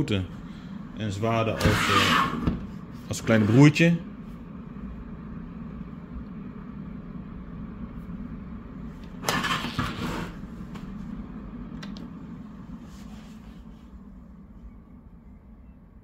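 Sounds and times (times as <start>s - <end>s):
duct fan humming: 0.0s - 16.0s.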